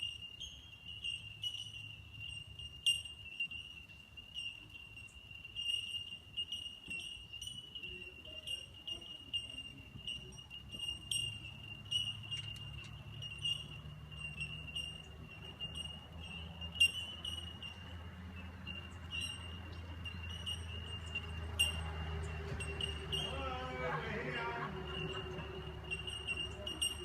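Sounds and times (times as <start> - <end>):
birds calling bell-like notes: 0.0 - 27.0.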